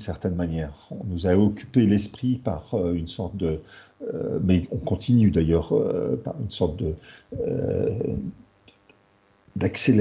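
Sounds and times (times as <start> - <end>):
man's drawn-out hesitation sound: 0.0 - 8.4, 9.6 - 10.0.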